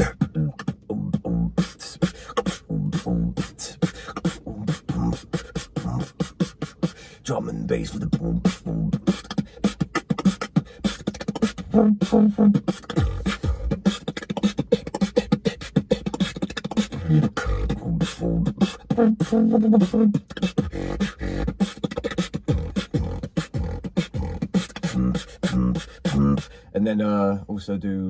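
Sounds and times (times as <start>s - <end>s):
hummed bass line: 0.0s - 26.5s
beatboxed drums: 0.0s - 26.7s.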